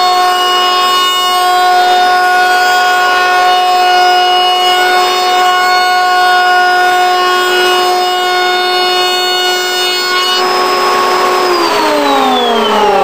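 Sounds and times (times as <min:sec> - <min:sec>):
router whining: 0:00.0 - 0:13.0.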